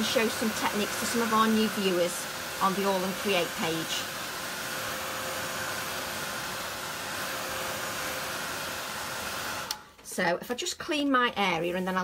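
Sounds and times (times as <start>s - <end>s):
craft dryer blowing air: 0.0s - 10.3s, 11.0s - 12.0s.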